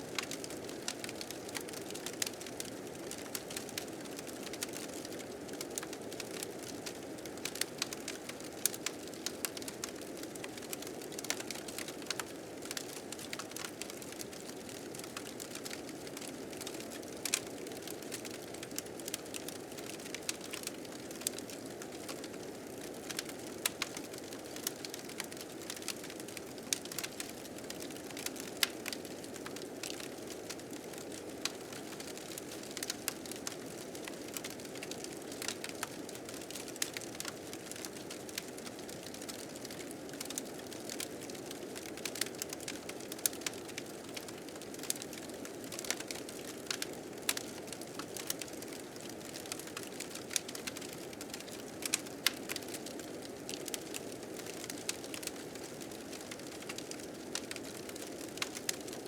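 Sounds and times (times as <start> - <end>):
wood fire crackling and popping: 0.1 - 59.0.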